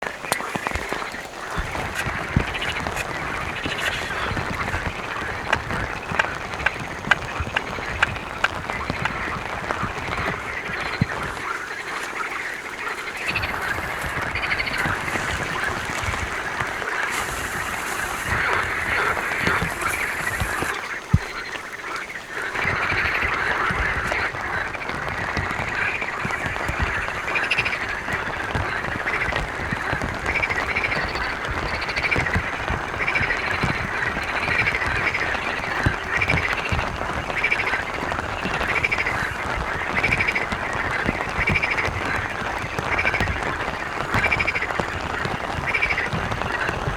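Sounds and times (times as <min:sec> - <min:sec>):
frogs croaking: 0:00.0 - 0:46.9
steady rain: 0:00.0 - 0:46.9.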